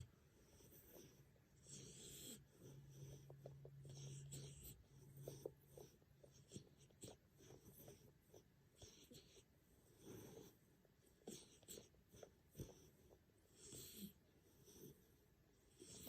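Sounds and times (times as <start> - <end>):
puppy snoring faintly: 0.0 - 16.0.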